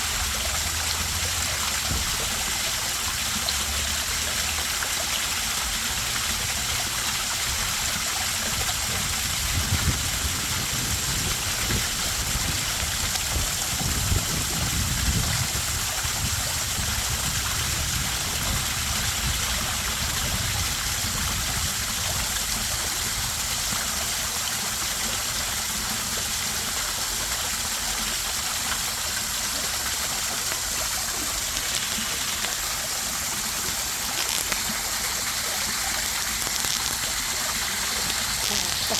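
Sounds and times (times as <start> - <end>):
waterfall splashing into pond: 0.0 - 38.9.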